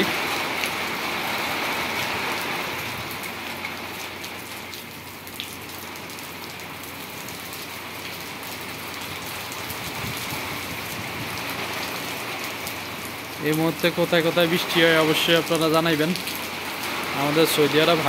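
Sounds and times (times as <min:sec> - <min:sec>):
heavy rain on tiles: 0:00.0 - 0:18.0.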